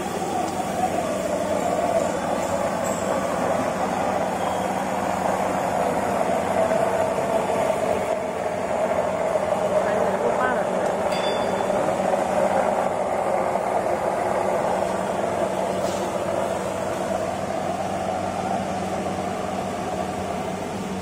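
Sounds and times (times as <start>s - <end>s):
grinding machine humming: 0.0s - 21.0s.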